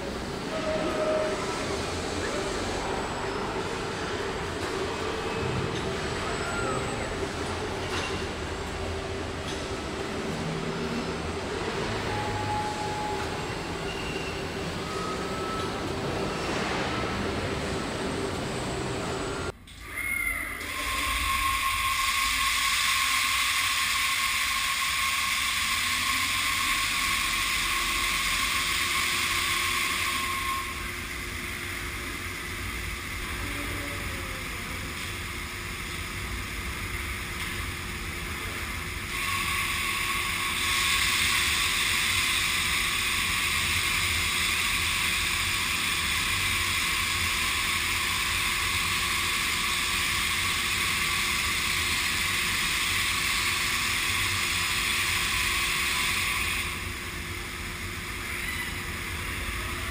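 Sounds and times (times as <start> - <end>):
low factory hum: 0.0 - 59.9.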